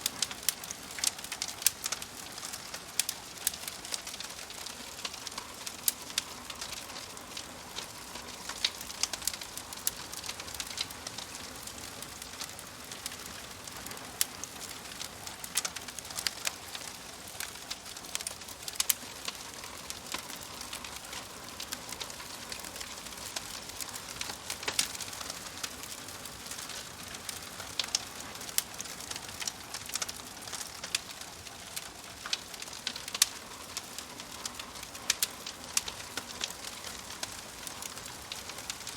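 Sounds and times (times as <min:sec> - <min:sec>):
logs crackling in fireplace: 0:00.0 - 0:38.9.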